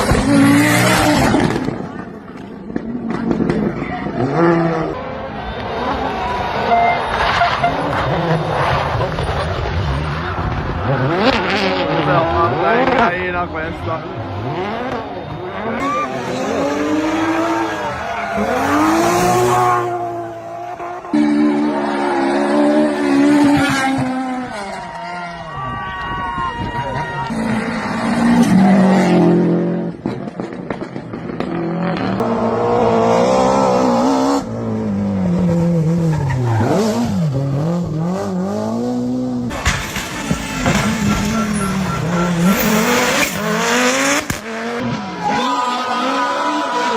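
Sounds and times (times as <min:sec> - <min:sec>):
rally car engine passing: 0:00.0 - 0:25.5, 0:27.0 - 0:46.9.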